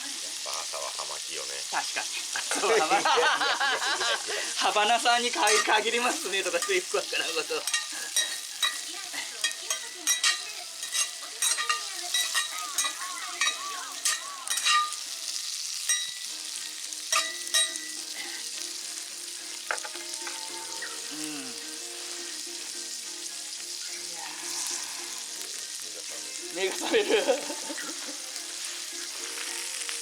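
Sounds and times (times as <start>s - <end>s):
campfire crackling and hissing: 0.0s - 30.0s.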